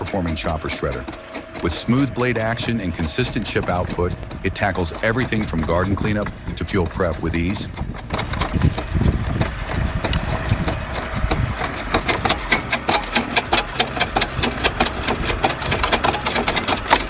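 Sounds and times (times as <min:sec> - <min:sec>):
engine running: 0:00.0 - 0:17.0
shredder chopping clatter: 0:00.0 - 0:17.0.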